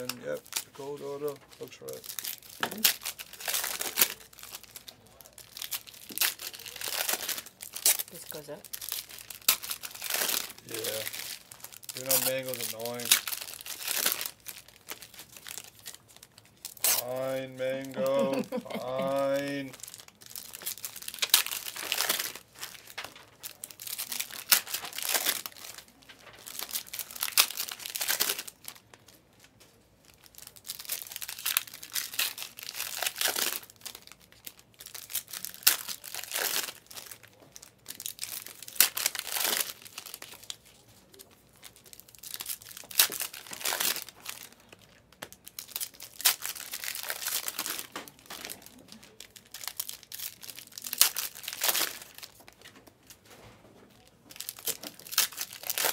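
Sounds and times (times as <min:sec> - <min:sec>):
foil wrappers tearing and crinkling: 0:00.0 - 0:53.3, 0:53.9 - 0:55.9.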